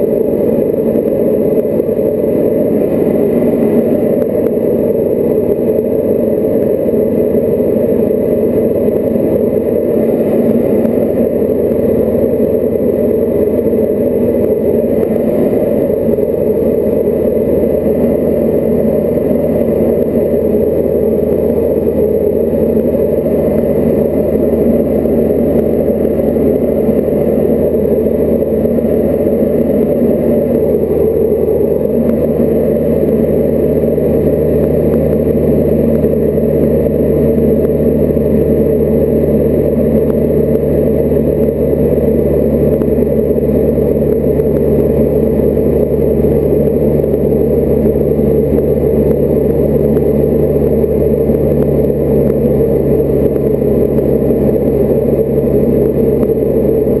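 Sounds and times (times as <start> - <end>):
aircraft engine and propeller droning: 0.0 - 57.0
low hum tones: 0.0 - 57.0.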